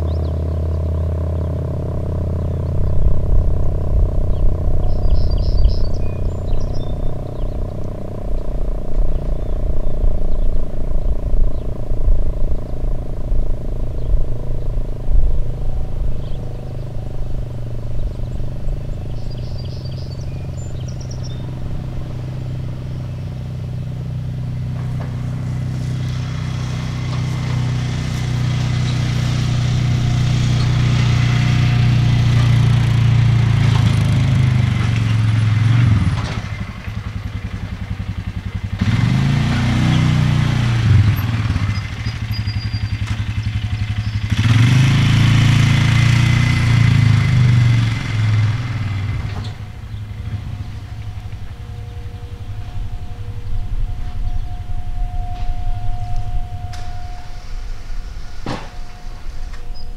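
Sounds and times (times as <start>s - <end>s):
warning siren winding down: 1.6s - 59.9s.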